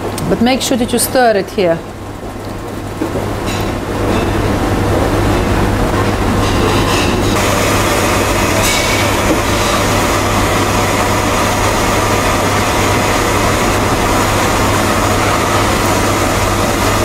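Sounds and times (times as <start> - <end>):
loud rumbling noise: 1.9 - 17.0.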